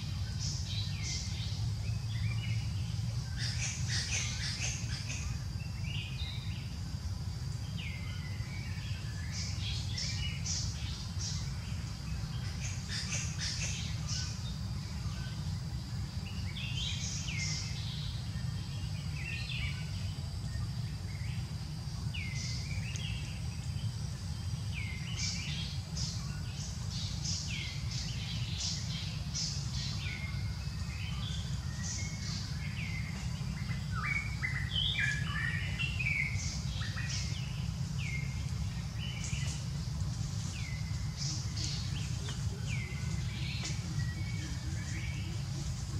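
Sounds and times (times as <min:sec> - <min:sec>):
birds chirping and calling: 0:00.0 - 0:06.8, 0:07.5 - 0:45.9
steady low rumble: 0:00.0 - 0:45.9.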